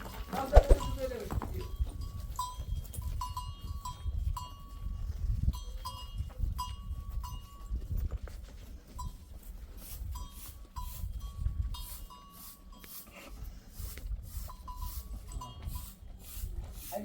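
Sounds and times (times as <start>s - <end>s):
goat bells clinking: 1.0s - 13.6s, 14.5s - 16.3s.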